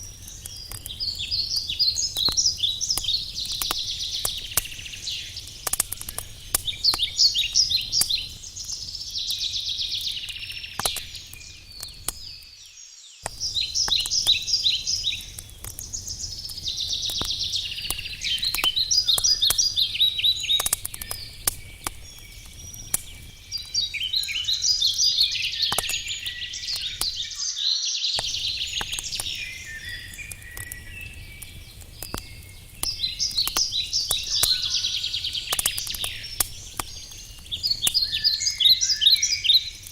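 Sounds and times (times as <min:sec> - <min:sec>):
campfire crackling and popping: 0:00.0 - 0:27.4, 0:28.2 - 0:39.9
songbirds trilling: 0:00.0 - 0:39.9.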